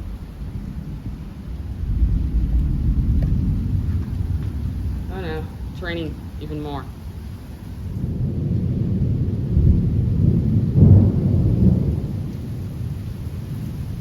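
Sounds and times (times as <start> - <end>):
heavy rain: 0.0 - 14.0
thunder rumbling: 0.0 - 14.0.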